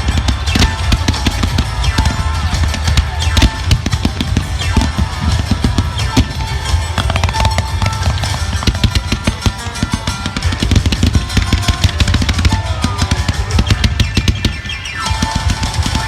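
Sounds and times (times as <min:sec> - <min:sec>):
drum-heavy music over loudspeakers: 0:00.0 - 0:16.0
fireworks bangs and crackles: 0:00.0 - 0:16.0.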